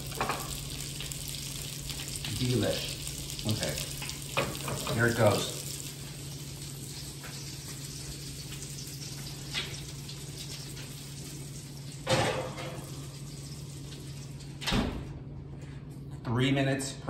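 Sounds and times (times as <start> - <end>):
meat sizzling in pan: 0.0 - 14.5.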